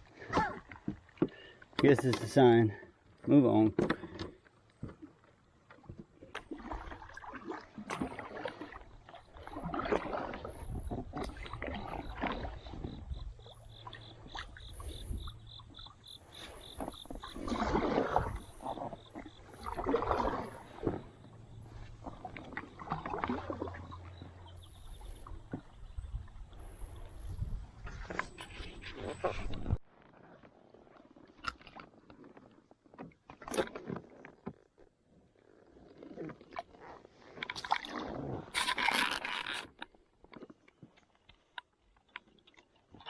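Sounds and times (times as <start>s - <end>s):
paddle strokes splashing water: 0.0s - 43.0s.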